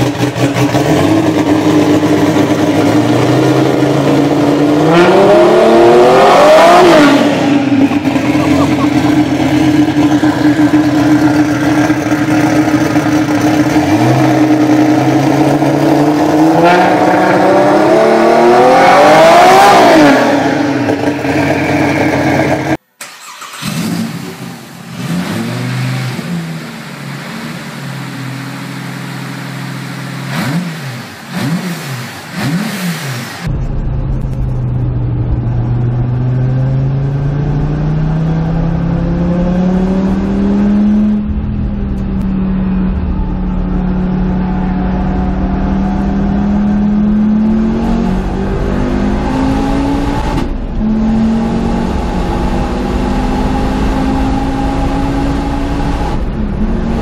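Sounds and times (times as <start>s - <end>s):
engine accelerating from inside car: 0.0s - 22.8s, 23.4s - 57.0s
five-cylinder engine idling and blipped: 0.0s - 57.0s
turbo engine idling and revving: 0.0s - 57.0s.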